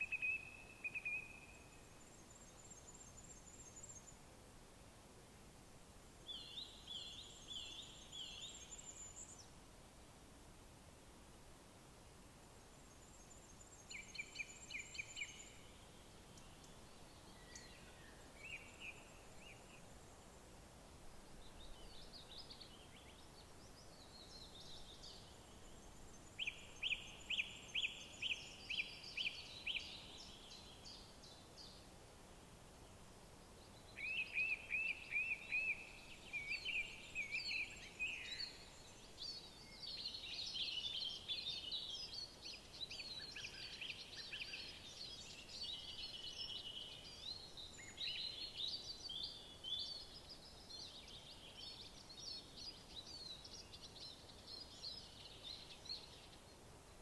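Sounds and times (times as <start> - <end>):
faint background hiss: 0.0 - 57.0
songbirds singing: 6.3 - 9.5, 12.8 - 20.5, 21.3 - 31.9, 32.8 - 57.0.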